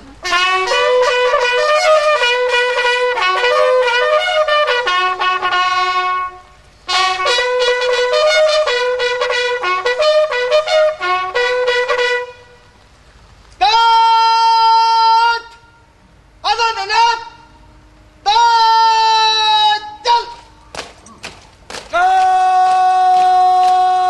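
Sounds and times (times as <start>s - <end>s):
bugle call: 0.2s - 12.8s, 13.6s - 24.0s.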